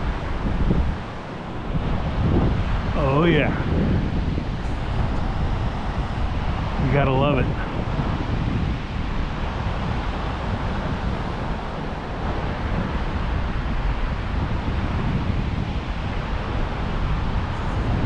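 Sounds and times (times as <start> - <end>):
surf rushing: 0.0 - 18.0
wind buffeting microphone: 0.0 - 18.0.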